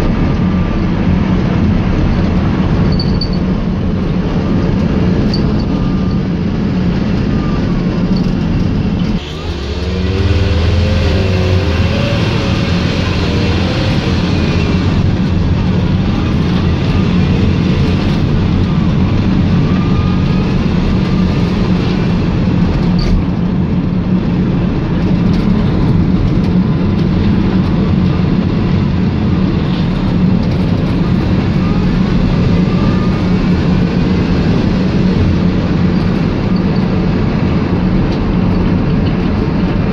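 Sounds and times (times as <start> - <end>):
minibus engine: 0.0 - 39.9
road noise: 0.0 - 39.9.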